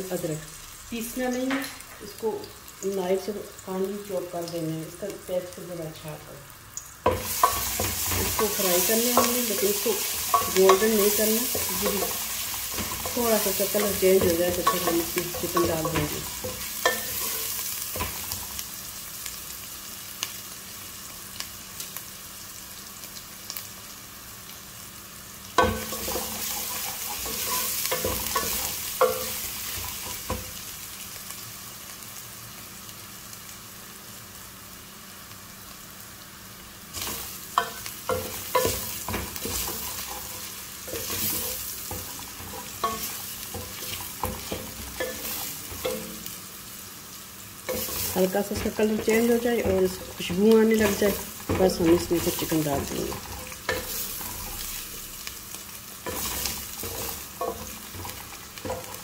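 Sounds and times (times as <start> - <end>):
garlic sizzling in hot oil: 0.0 - 59.0.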